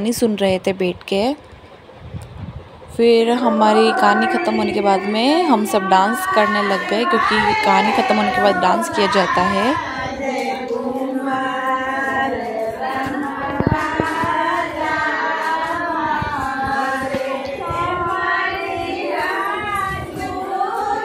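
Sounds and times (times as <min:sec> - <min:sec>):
women singing together: 0:03.0 - 0:21.0.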